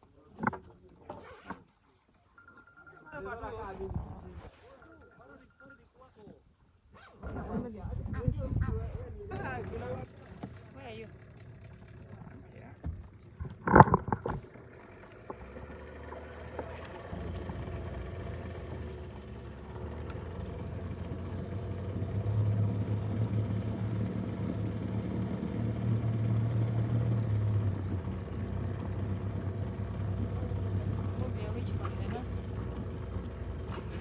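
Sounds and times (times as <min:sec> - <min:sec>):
motorboat engine running: 0:02.4 - 0:05.0, 0:07.2 - 0:34.0.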